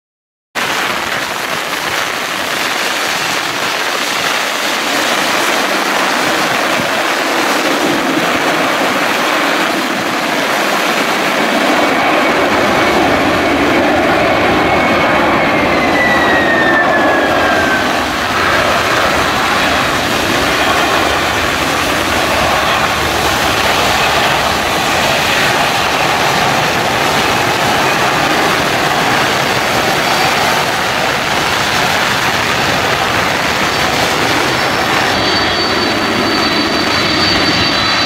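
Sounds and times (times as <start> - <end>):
jet engines in reverse thrust: 0.6 - 38.0
whine falling in pitch: 0.7 - 38.0.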